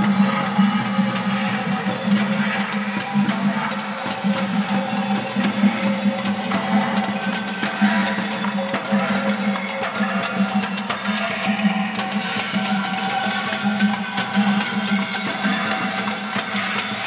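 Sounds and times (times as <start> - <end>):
percussion on pots and pans: 0.0 - 17.0.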